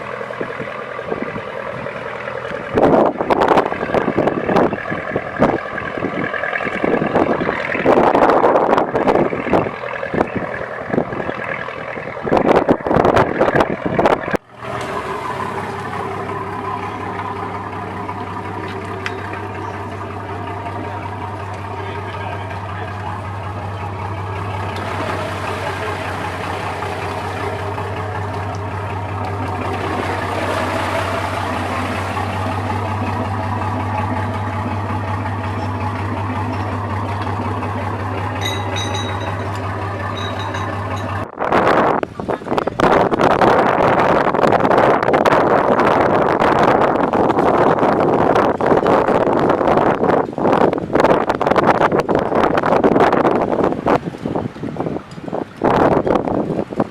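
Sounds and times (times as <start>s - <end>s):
boat engine idling: 0.0s - 56.9s.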